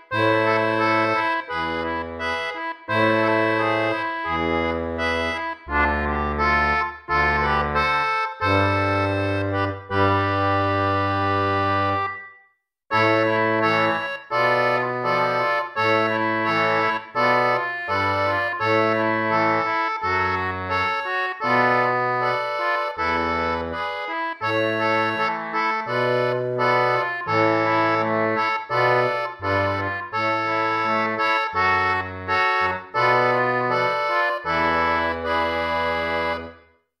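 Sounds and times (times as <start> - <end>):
instrumental music: 0.0 - 37.0.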